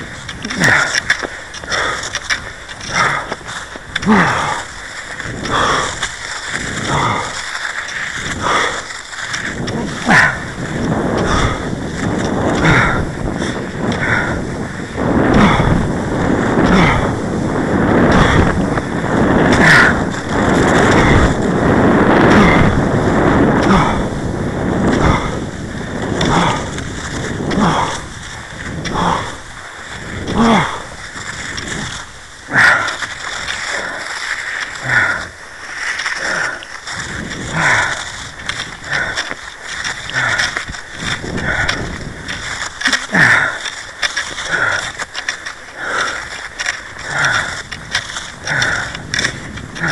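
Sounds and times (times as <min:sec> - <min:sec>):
skis and poles in snow: 0:00.0 - 0:49.9.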